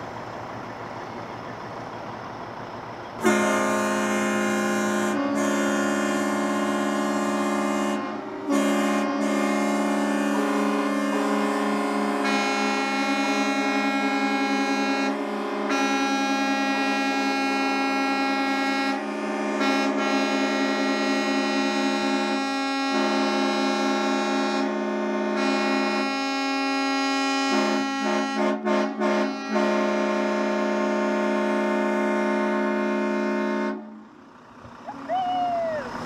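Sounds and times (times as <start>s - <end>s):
truck air horns blowing: 3.2s - 34.2s.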